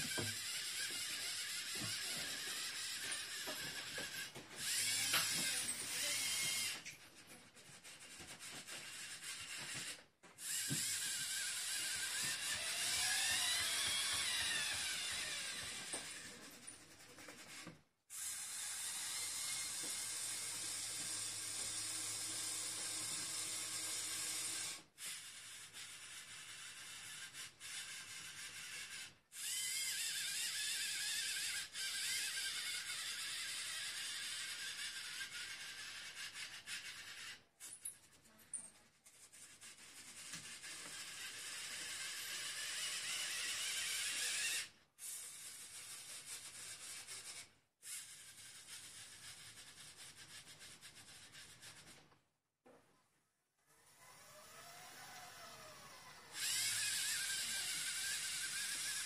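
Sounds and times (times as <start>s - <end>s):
small electric motors whirring: 0.0s - 52.0s, 53.6s - 59.0s.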